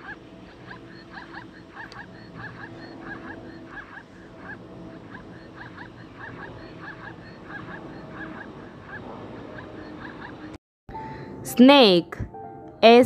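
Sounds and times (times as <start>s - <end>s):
zebras barking: 0.0s - 10.6s
faint steady hum: 0.0s - 13.0s.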